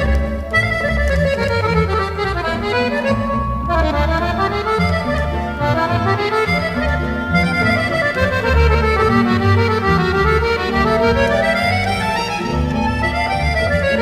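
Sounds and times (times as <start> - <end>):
accordion melody: 0.0 - 14.0
bass line: 0.0 - 14.0.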